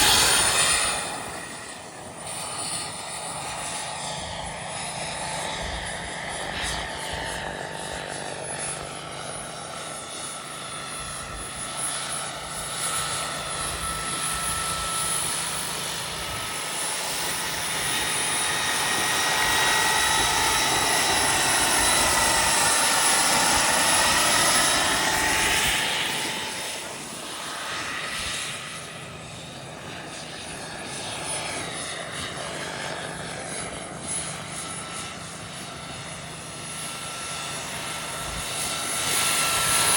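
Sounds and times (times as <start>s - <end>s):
helicopter rotor noise: 0.0s - 39.9s
rc helicopter turbine whine: 0.0s - 39.9s.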